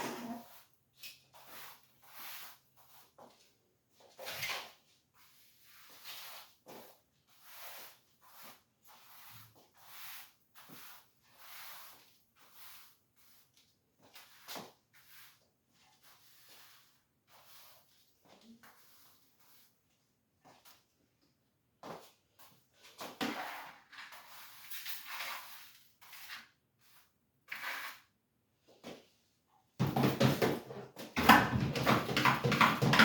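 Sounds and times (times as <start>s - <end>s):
broom sweeping floor: 0.0s - 21.1s, 21.8s - 29.2s, 29.8s - 33.0s.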